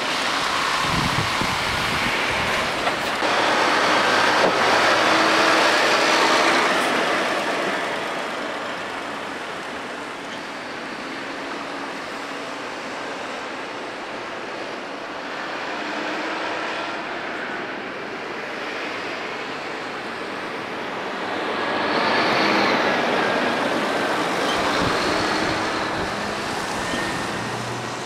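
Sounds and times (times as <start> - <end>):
diesel lorry passing: 0.0 - 28.0.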